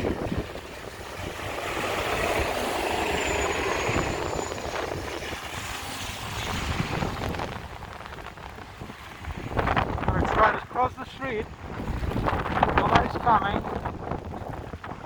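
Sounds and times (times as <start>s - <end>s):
bus passing on wet street: 0.0s - 12.8s.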